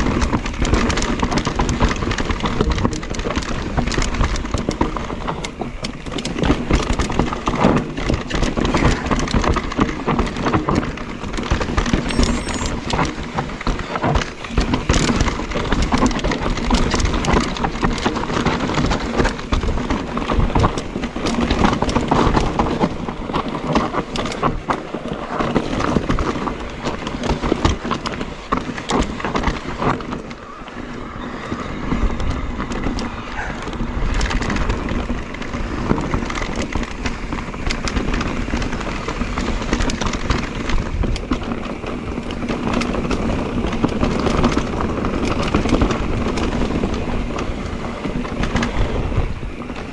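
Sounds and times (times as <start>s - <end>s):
bike rattling: 0.0s - 49.9s.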